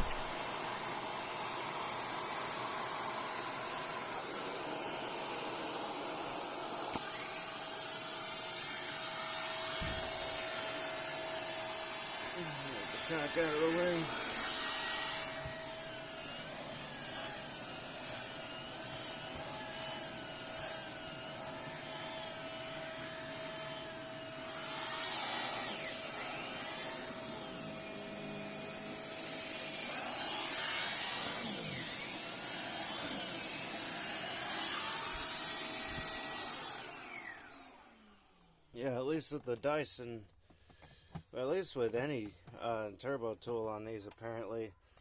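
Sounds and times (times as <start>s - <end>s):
vacuum cleaner suction with whistle: 0.0s - 38.2s.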